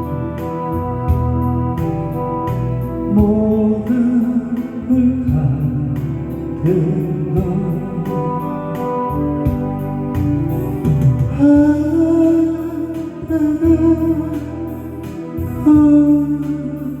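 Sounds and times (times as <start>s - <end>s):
guitar accompaniment: 0.0s - 17.0s
person singing slow song: 0.0s - 17.0s.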